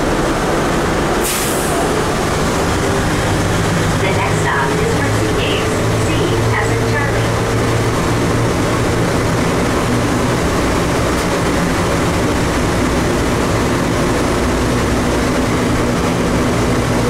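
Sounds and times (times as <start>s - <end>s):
train rumbling in tunnel: 0.0s - 17.0s.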